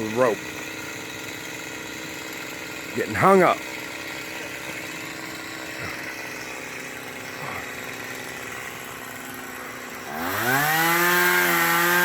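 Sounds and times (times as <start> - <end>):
chainsaw idling: 0.0 - 12.0.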